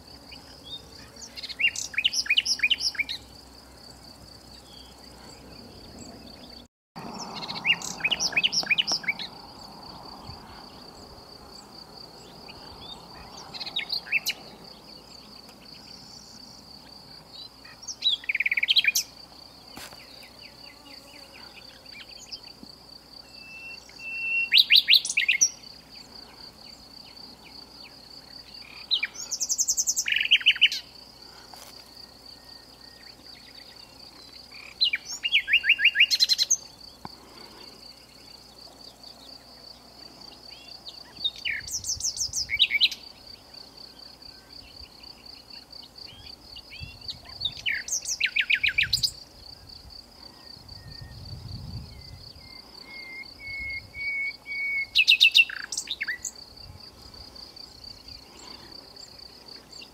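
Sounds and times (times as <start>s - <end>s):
nightingale singing: 0.3s - 3.3s, 4.4s - 22.6s, 23.2s - 31.0s, 32.0s - 37.0s, 37.9s - 56.5s.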